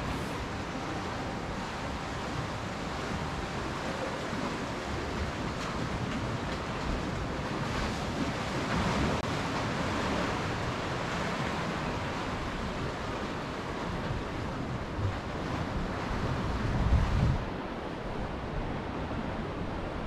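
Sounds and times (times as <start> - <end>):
sea waves washing on concrete: 0.0 - 20.0
wind buffeting microphone: 0.0 - 20.0.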